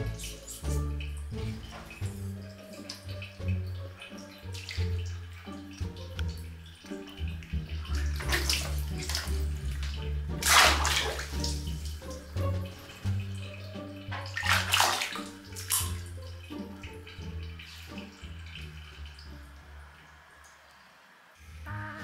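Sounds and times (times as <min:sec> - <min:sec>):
background music with bass: 0:00.0 - 0:19.8, 0:21.4 - 0:22.0
water splashing in a plastic basin: 0:00.0 - 0:20.8.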